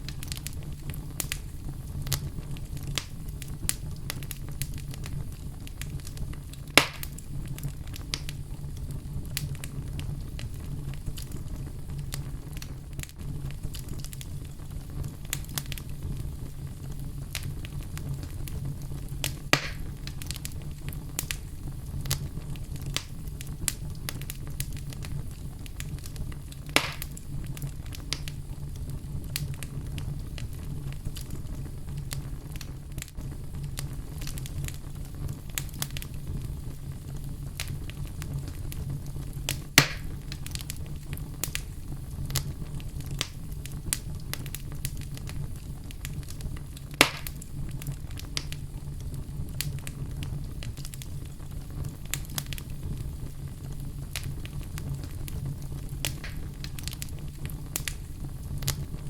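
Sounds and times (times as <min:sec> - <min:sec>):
fireplace fire crackling: 0:00.0 - 0:59.0
loud fire pops: 0:00.0 - 0:59.0.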